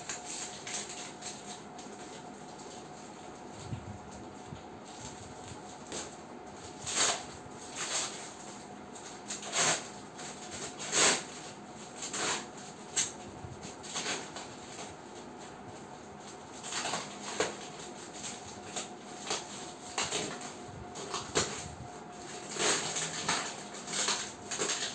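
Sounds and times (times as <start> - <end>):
plastic stretch film crinkling: 0.0 - 24.9.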